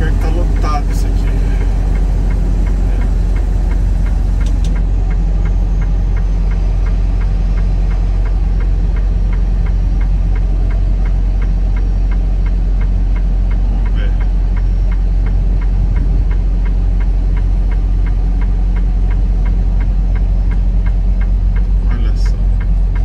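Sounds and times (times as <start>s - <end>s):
light regular ticking: 0.0s - 23.0s
truck engine low rumble: 0.0s - 23.0s.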